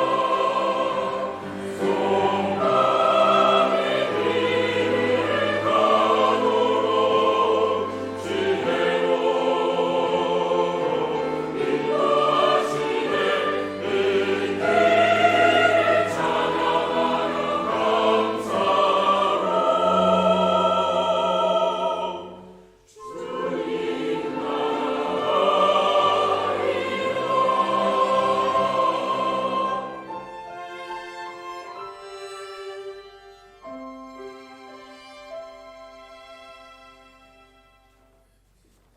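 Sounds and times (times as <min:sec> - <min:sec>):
church choir singing: 0:00.0 - 0:33.1.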